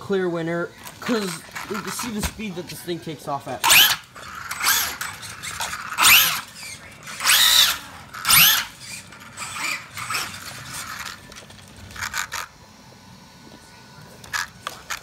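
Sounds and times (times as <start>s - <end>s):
rc car motor whining: 0.8s - 12.6s, 14.2s - 15.0s.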